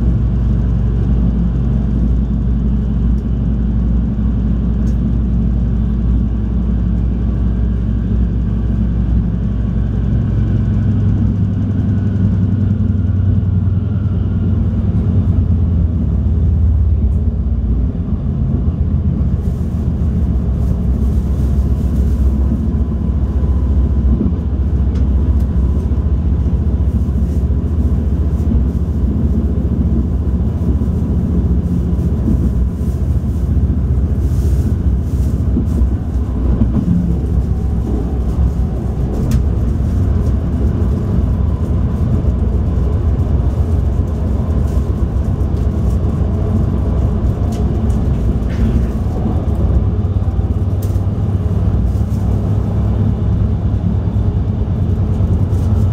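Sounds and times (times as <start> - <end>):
diesel engine drone: 0.0 - 55.9
wheels rumbling on rails: 0.0 - 55.9.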